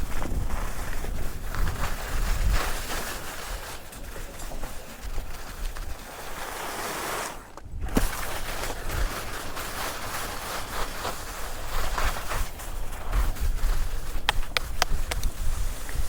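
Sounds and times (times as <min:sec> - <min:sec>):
wind buffeting microphone: 0:00.0 - 0:06.4, 0:07.6 - 0:16.0
skis scraping through snow: 0:00.0 - 0:16.0.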